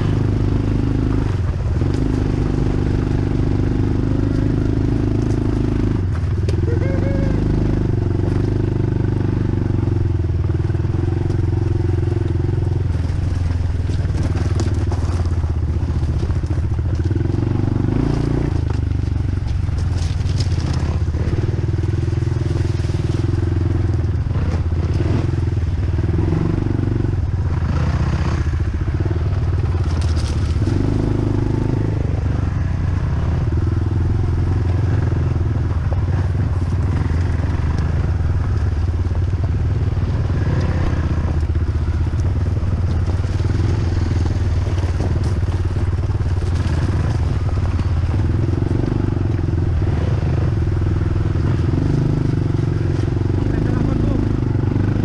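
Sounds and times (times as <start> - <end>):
dirt bike engine revving: 0.0 - 55.0
crackles and clatters: 1.1 - 6.8, 10.1 - 26.2, 28.2 - 54.6.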